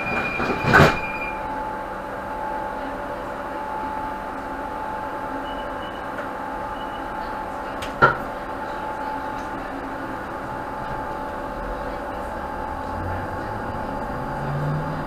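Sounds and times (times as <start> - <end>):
train equipment humming with tone: 0.0 - 15.0.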